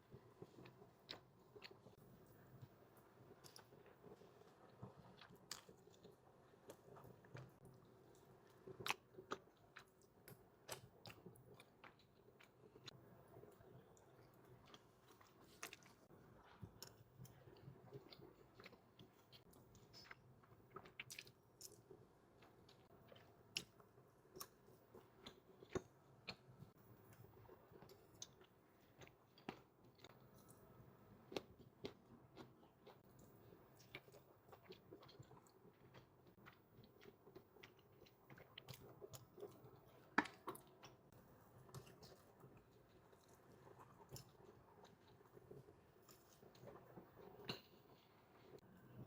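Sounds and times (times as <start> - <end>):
person chewing food: 0.3 - 2.0, 3.3 - 48.8.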